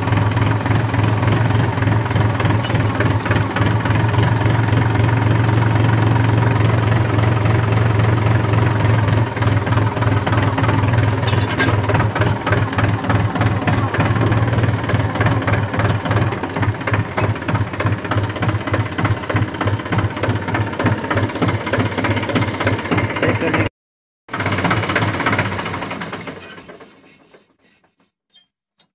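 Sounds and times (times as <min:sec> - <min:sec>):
diesel tractor engine running: 0:00.0 - 0:23.7, 0:24.3 - 0:27.3.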